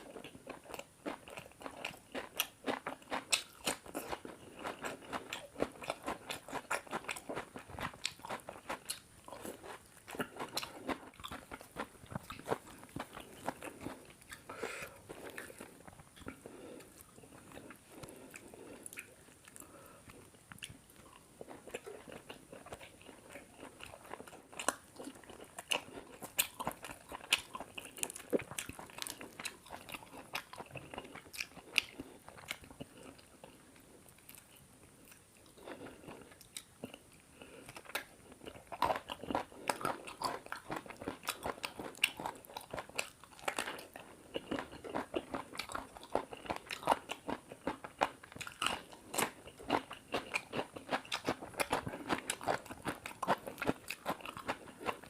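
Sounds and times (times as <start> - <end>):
chewing and biting food: 0.0 - 55.0.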